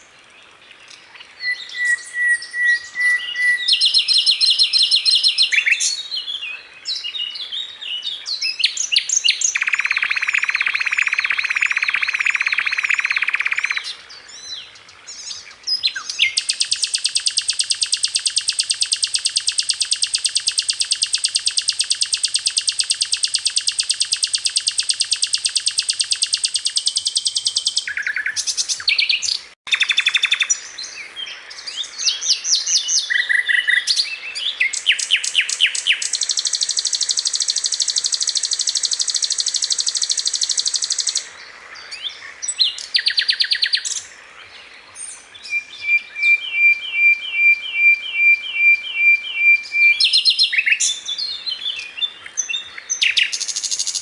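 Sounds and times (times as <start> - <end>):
songbird trills and chirps: 0.0 - 54.0.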